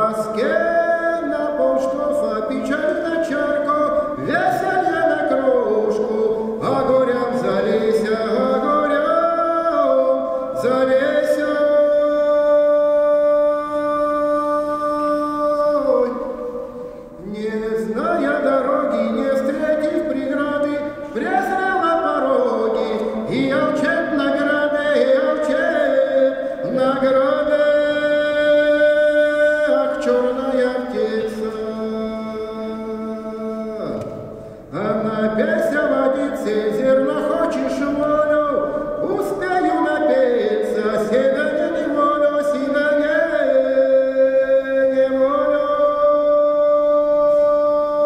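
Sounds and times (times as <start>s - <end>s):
man singing unaccompanied: 0.0s - 48.0s.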